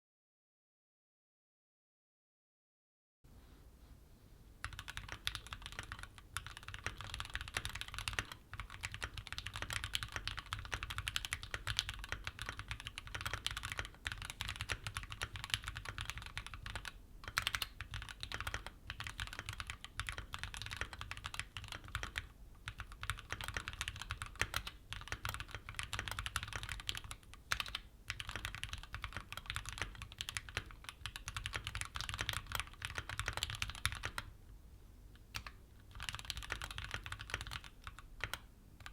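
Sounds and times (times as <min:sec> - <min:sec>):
mechanical keyboard typing: 0:04.6 - 0:34.3, 0:35.3 - 0:38.9.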